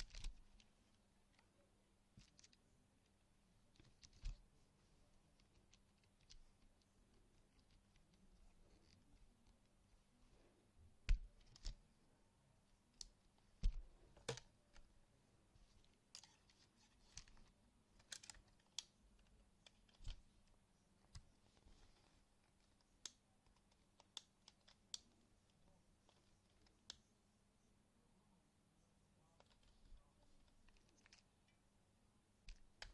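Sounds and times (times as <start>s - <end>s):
faint clicks and taps: 0.0s - 4.6s, 5.2s - 11.8s, 12.9s - 15.0s, 15.6s - 27.1s, 29.3s - 31.6s, 32.4s - 32.9s
faint low hum: 0.0s - 32.9s.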